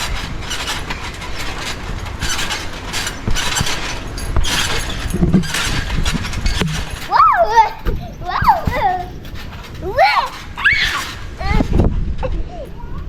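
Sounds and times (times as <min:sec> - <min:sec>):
trampoline mat thumping: 0:00.0 - 0:12.0
trampoline springs rasping: 0:00.0 - 0:12.9.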